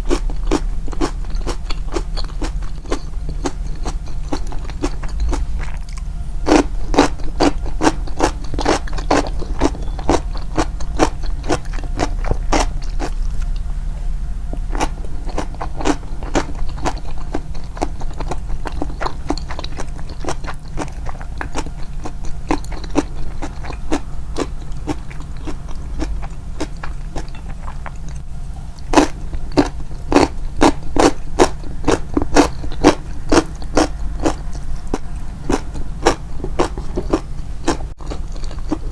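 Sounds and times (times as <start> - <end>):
crunchy chewing of pickles: 0.0 - 38.9
low hum: 0.0 - 38.9.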